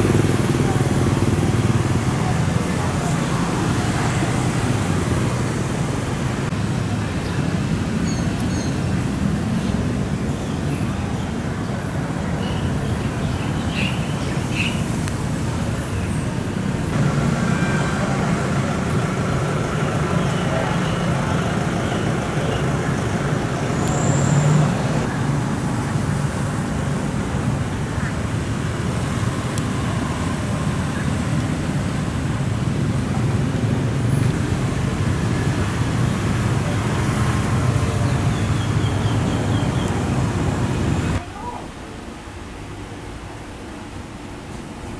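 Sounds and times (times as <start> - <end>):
traffic engines rumbling: 0.0 - 44.9.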